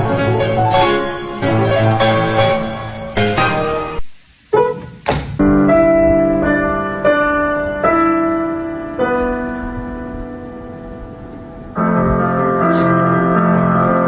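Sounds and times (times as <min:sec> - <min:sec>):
slow piano chords: 0:00.0 - 0:04.7, 0:05.4 - 0:14.0.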